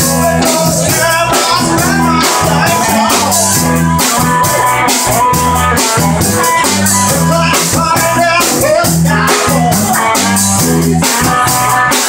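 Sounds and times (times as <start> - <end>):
bass line: 0.0 - 12.0
drum kit with cymbal: 0.0 - 12.0
electric guitar: 0.0 - 12.0
person singing: 0.0 - 12.0.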